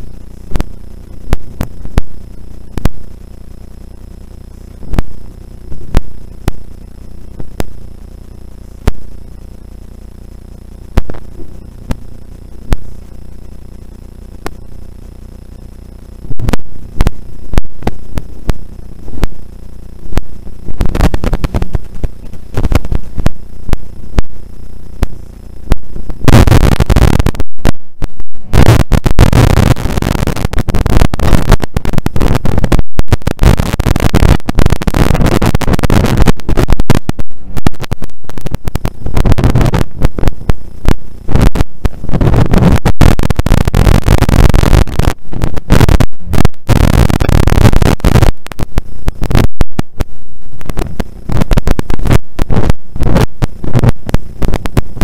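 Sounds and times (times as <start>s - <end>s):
harsh distorted noise: 0.0s - 55.0s.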